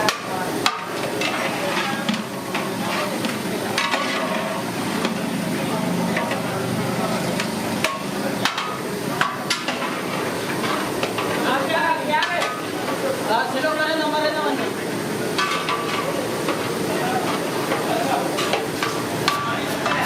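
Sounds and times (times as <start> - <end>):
metal utensils clanking in pots: 0.0 - 13.8, 14.5 - 20.0.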